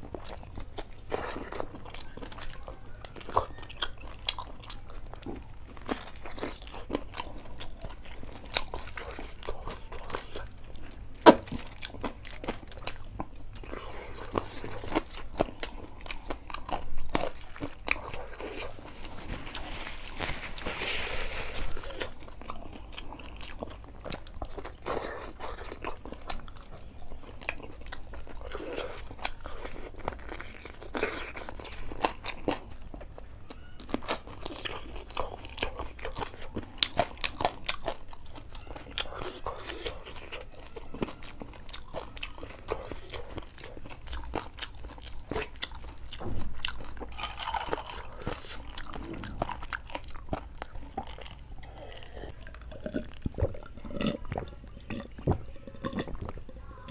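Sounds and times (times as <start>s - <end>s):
man chewing wetly: 0.0s - 56.9s.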